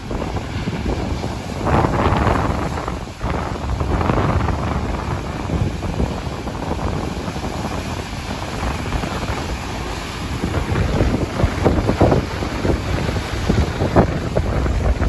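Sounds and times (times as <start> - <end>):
sea surf breaking over rocks: 0.0 - 15.0
wind buffeting microphone: 0.0 - 15.0.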